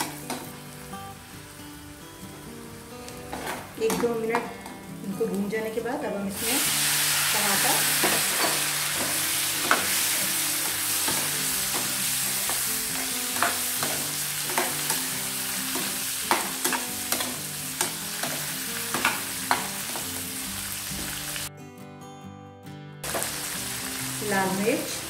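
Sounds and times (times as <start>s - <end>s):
tomatoes sizzling in oil: 0.0s - 21.5s, 23.0s - 25.0s.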